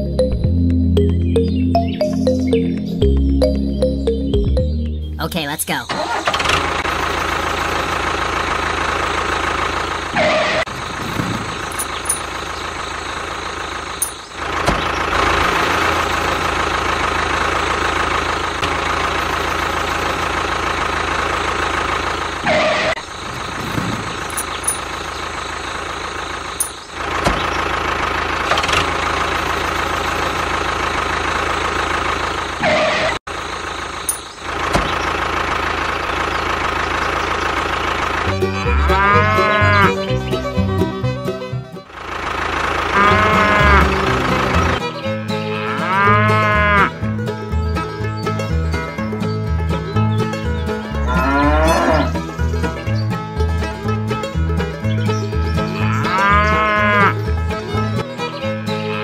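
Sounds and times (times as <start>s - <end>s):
tractor engine idling: 0.0s - 58.6s.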